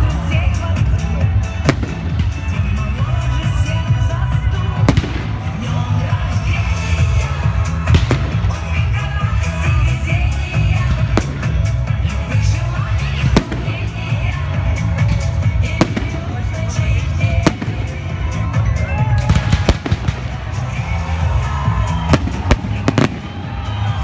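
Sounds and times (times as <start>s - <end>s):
loud music: 0.0s - 24.0s.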